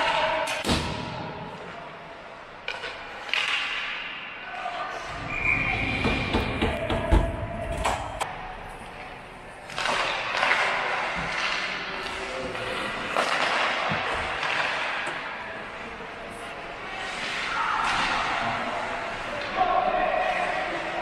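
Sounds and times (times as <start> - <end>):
hockey sticks and puck clacking: 0.0 - 1.8, 2.6 - 4.4, 5.8 - 21.0.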